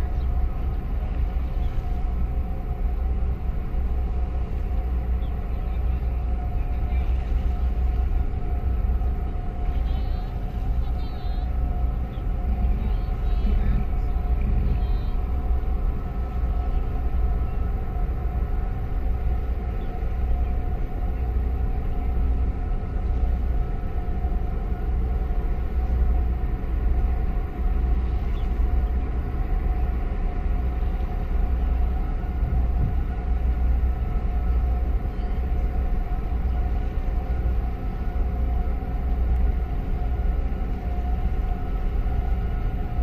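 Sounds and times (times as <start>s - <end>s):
ship engine rumble and hum: 0.0s - 43.0s.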